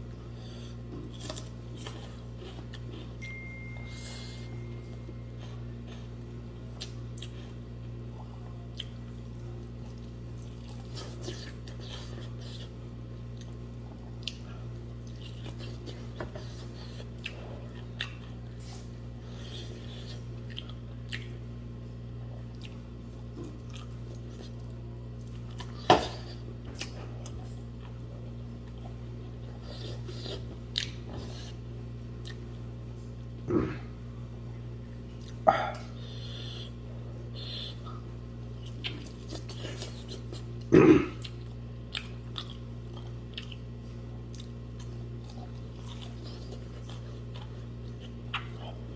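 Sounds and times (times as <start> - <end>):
steady low hum: 0.0 - 48.9
person chewing and biting: 0.4 - 3.2, 4.2 - 21.4, 22.5 - 32.5, 37.4 - 48.9.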